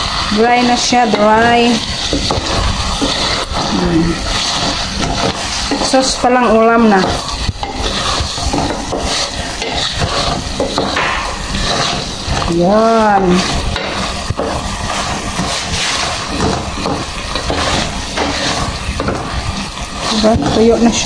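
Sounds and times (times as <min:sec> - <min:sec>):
sauce sizzling and frying: 0:00.0 - 0:21.0
wooden spatula scraping a pot: 0:00.0 - 0:21.0.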